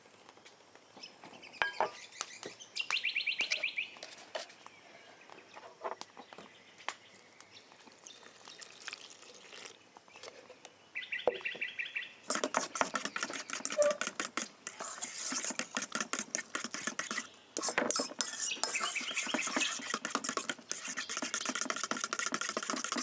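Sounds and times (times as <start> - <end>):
birds chirping: 0.4 - 9.1, 9.8 - 23.0.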